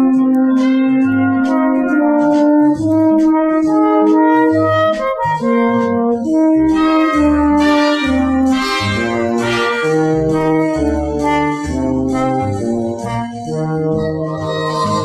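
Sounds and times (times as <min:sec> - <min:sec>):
brass-led orchestral music: 0:00.0 - 0:15.0.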